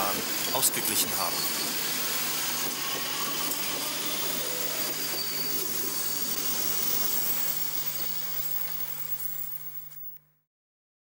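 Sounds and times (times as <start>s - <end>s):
electric train passing: 0.0s - 10.2s.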